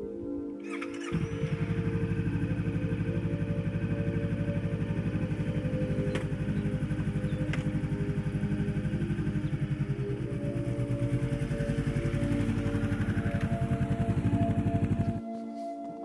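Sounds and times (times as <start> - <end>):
motorcycle engine idling: 1.0 - 15.2.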